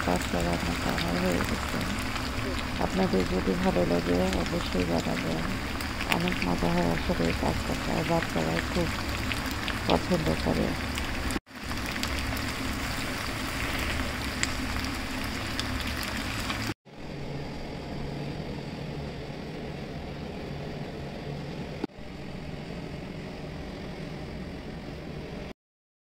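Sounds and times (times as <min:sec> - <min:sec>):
mechanical hum with low drone: 0:00.0 - 0:25.6.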